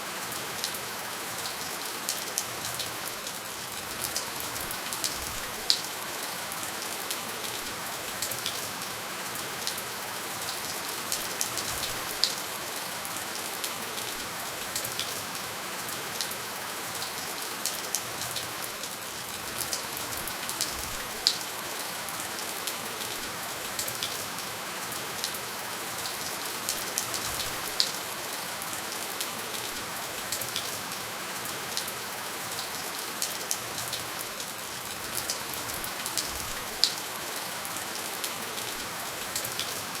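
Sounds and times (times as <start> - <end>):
raindrops ticking close by: 0.0 - 40.0
steady rain hiss: 0.0 - 40.0.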